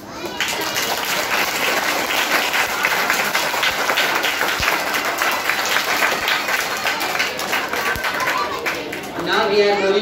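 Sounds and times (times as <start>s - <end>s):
audience applauding: 0.2s - 9.2s.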